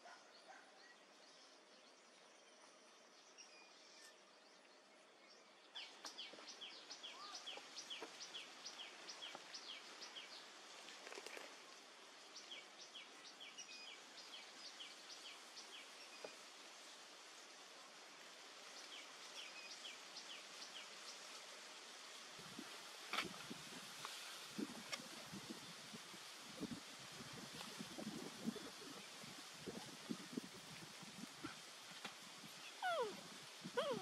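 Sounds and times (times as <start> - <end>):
faint outdoor ambience: 0.0 - 34.0.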